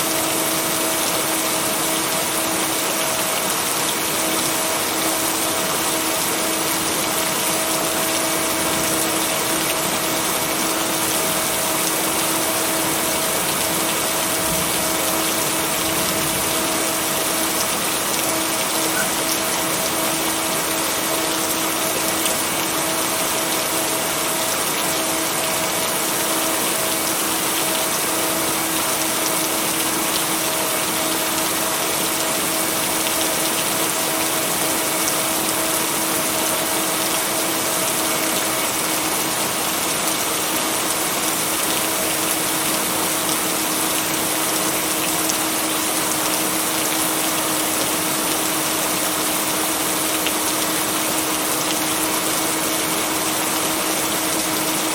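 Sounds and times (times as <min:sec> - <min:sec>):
steady rainfall: 0:00.0 - 0:54.9.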